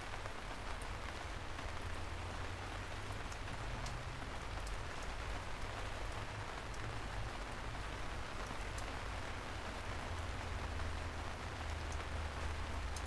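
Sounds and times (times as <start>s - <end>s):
steady rainfall hiss: 0.0s - 13.0s
ticks of single raindrops: 0.0s - 13.0s.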